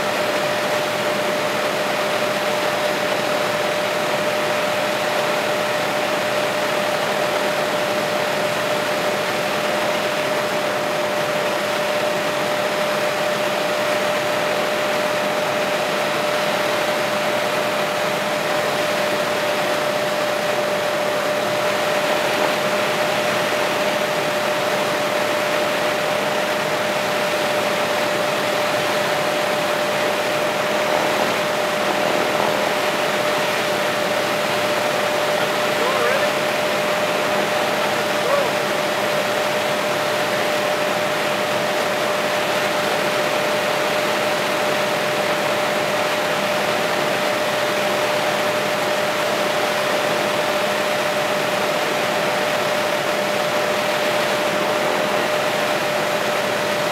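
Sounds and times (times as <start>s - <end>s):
helicopter engine and rotor noise: 0.1s - 56.9s.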